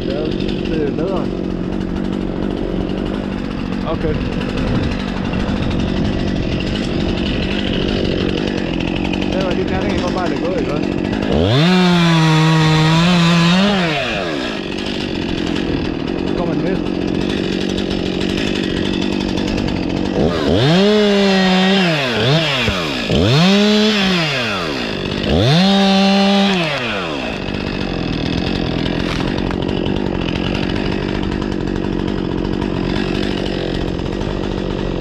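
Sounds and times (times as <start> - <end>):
chainsaw idling and revving: 0.0 - 35.0.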